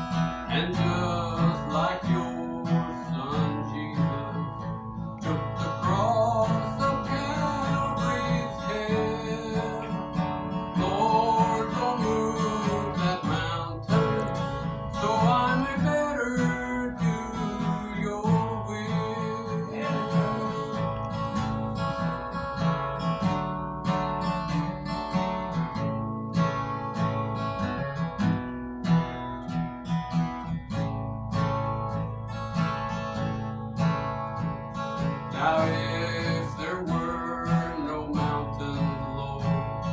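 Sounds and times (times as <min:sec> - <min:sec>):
acoustic guitar gospel tune: 0:00.0 - 0:39.9.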